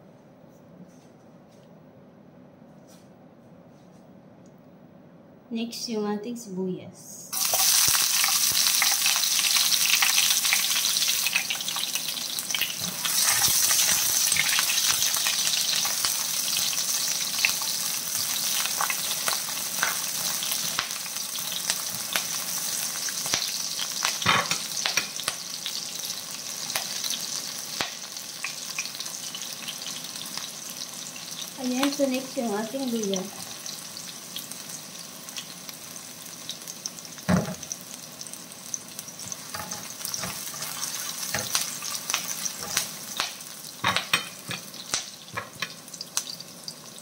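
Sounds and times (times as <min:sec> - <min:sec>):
onion sizzling in hot oil: 0:07.3 - 0:47.0.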